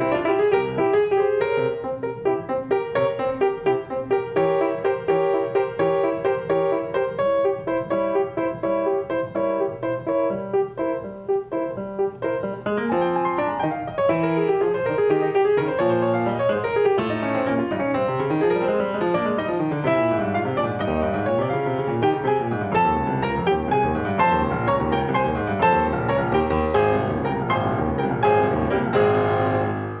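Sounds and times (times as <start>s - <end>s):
piano playing: 0.0s - 30.0s.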